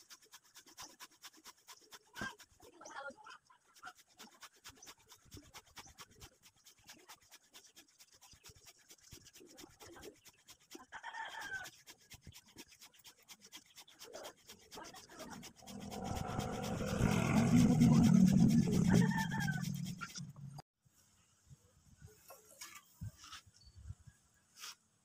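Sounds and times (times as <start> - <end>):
marker rubbing on metal blade: 0.0 - 20.4.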